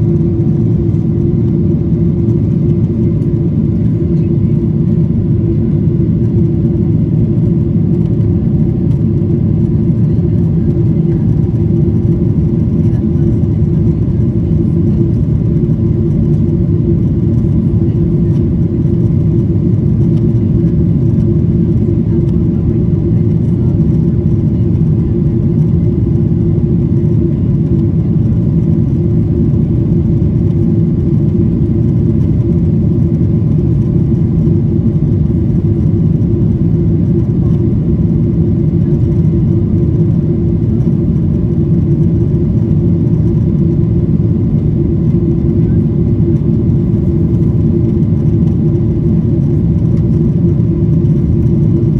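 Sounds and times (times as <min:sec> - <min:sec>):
aeroplane engines rumbling: 0:00.0 - 0:51.9.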